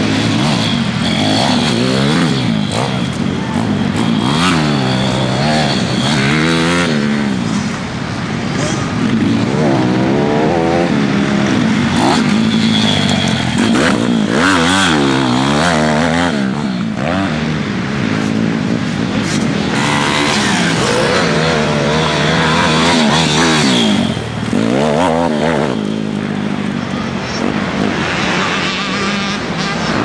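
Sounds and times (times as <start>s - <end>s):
pit bike engine revving: 0.0s - 30.0s.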